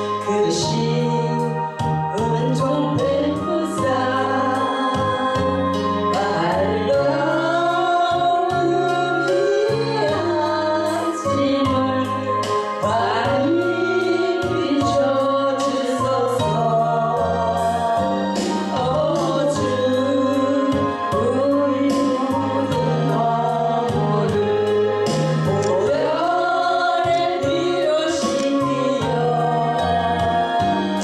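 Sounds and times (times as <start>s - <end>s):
gospel singing: 0.0s - 31.0s
instrumental accompaniment with beat: 0.0s - 31.0s.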